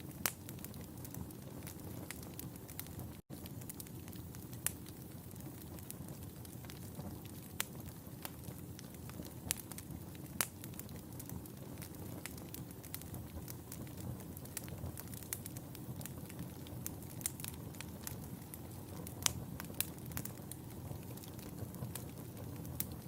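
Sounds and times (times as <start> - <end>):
loud fire pops: 0.0 - 23.0
wood fire crackling: 0.0 - 23.0.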